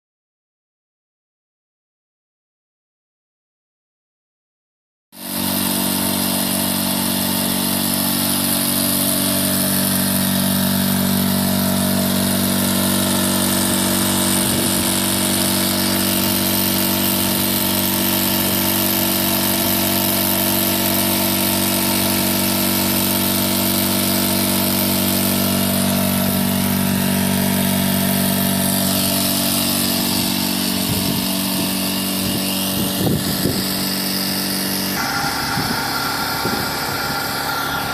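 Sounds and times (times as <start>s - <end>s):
industrial blower humming and hissing: 5.2s - 37.9s.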